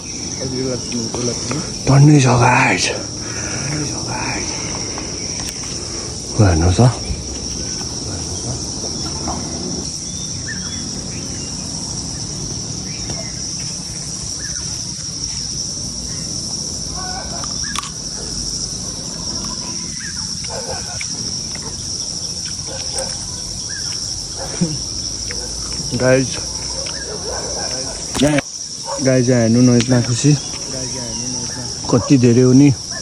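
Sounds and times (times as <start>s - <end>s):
insects droning: 0.0s - 33.0s
faint bird chirps: 3.1s - 28.1s, 30.1s - 32.0s.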